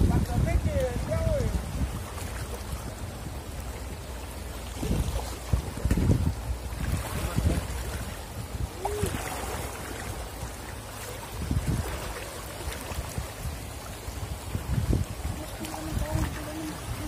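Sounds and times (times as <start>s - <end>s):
river water rushing over rocks: 0.0s - 17.0s
splashing of wading in water: 0.0s - 17.0s.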